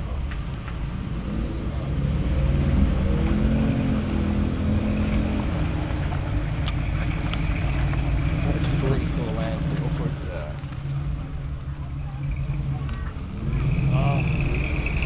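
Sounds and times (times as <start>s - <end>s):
truck engine revving under load: 1.0s - 11.3s, 12.2s - 15.0s.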